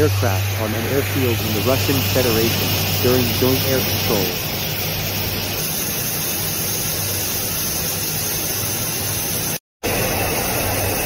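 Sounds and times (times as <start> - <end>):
aircraft engine noise: 0.0 - 11.0.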